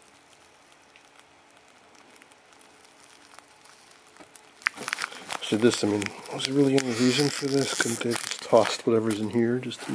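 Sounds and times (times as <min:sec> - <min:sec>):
packing tape peeled crinkling: 0:00.0 - 0:09.9.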